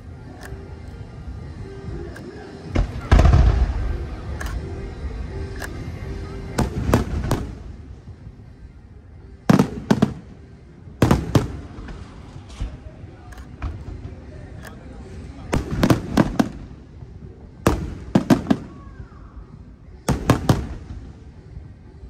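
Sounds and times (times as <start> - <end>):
fireworks bursting overhead: 2.7 - 5.0, 5.6 - 8.6, 9.3 - 21.8.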